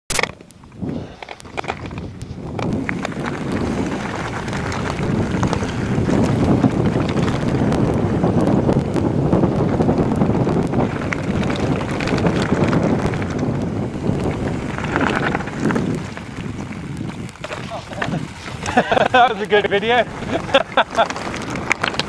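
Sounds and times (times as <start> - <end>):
bike tyres rumbling over stones: 0.1 - 22.0
small clicks and rattles: 0.1 - 22.0
wind buffeting microphone: 0.5 - 22.0.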